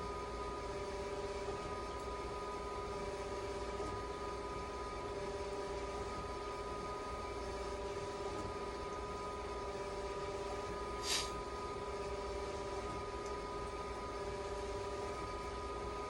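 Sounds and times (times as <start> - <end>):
machine hum with whining tones: 0.0 - 16.0.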